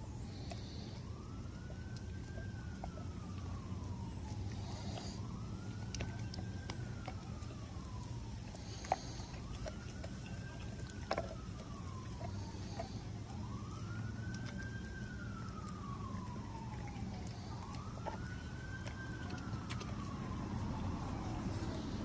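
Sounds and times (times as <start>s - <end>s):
dog licking and chewing meat: 0.0s - 22.0s
emergency vehicle siren wailing: 0.0s - 22.0s.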